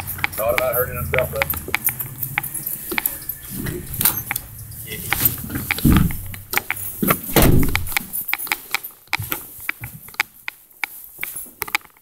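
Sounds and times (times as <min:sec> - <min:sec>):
sharp clicks and knocks: 0:00.0 - 0:04.5, 0:05.1 - 0:12.0.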